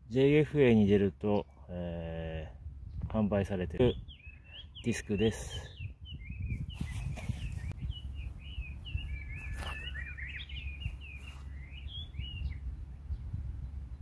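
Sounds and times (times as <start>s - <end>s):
small birds singing: 0.0s - 14.0s
wind rumble on microphone: 2.4s - 14.0s.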